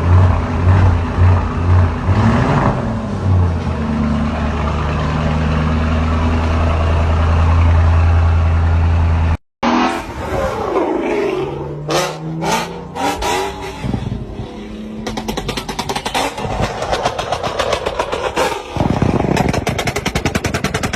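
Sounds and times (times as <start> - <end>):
car engine revving: 0.0 - 9.0, 9.6 - 20.9.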